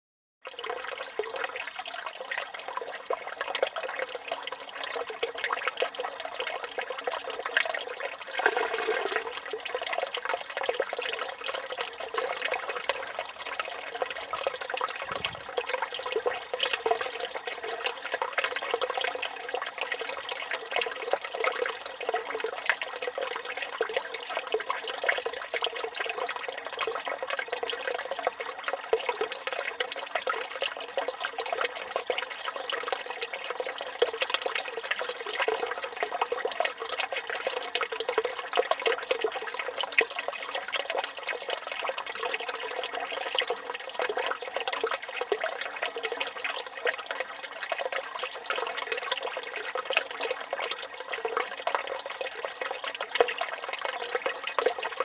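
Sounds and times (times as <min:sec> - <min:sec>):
fountain water splashing into basin: 0:00.4 - 0:55.0.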